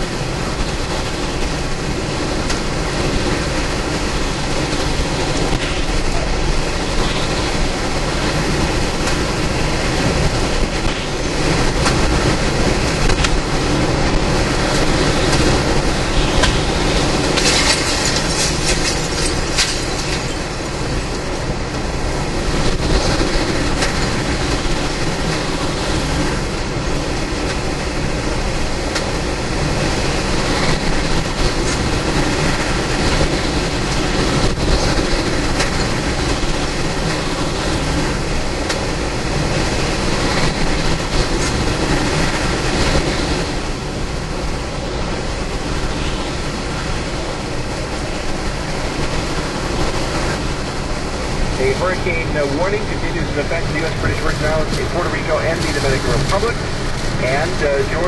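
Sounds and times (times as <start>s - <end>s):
driving rain: 0.0s - 58.0s
hurricane wind roaring: 0.0s - 58.0s.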